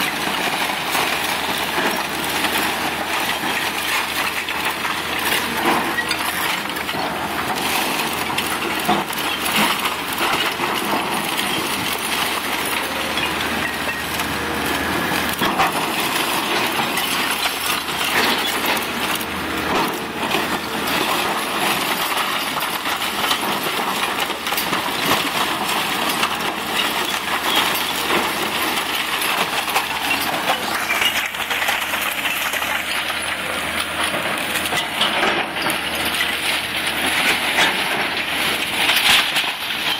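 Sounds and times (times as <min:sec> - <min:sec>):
diesel engines running: 0:00.0 - 0:39.9
falling debris: 0:00.0 - 0:39.9
splintering wood and breaking brick: 0:00.0 - 0:39.9.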